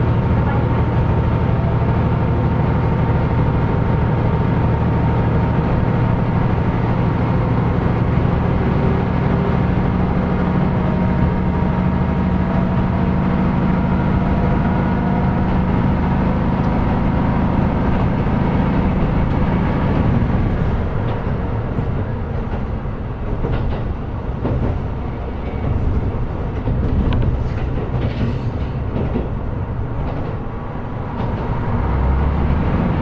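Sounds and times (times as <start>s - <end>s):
diesel engine low drone: 0.0s - 33.0s
wheel and rail noise: 0.0s - 33.0s.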